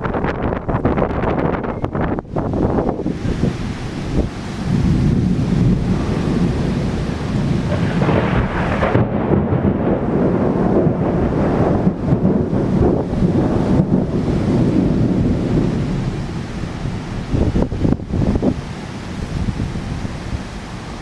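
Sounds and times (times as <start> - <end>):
torrential rain pouring: 0.0 - 21.0.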